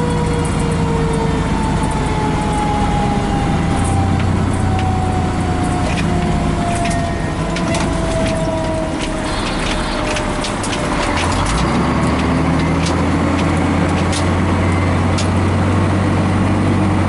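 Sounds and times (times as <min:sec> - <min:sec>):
mechanical siren winding down: 0:00.0 - 0:16.2
diesel engine and road rumble: 0:00.0 - 0:17.0.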